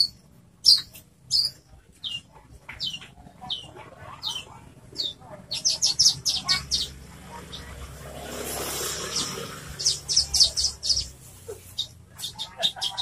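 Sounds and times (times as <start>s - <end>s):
lark chirping: 0.0s - 7.9s, 8.9s - 13.0s.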